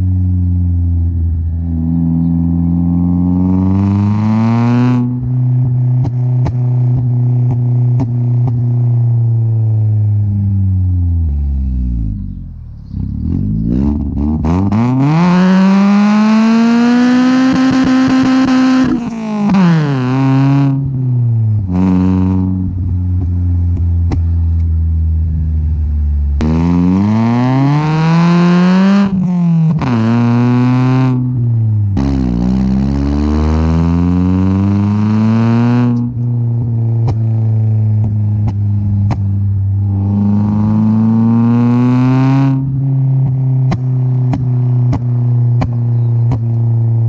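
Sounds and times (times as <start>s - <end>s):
car engine exhaust accelerating: 0.0s - 47.0s.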